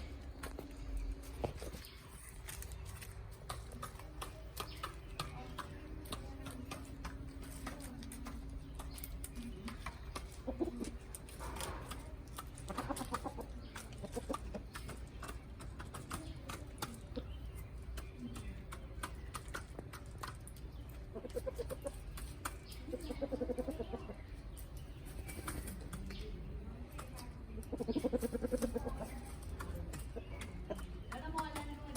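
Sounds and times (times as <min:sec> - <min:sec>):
chickens clucking: 0:00.0 - 0:31.9.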